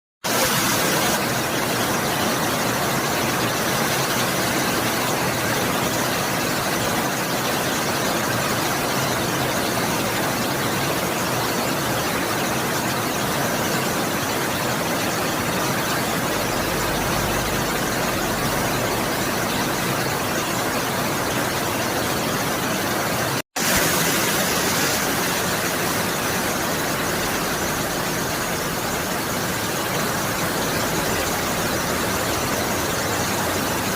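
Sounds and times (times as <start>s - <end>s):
heavy rain hissing: 0.3s - 10.2s, 13.2s - 33.9s.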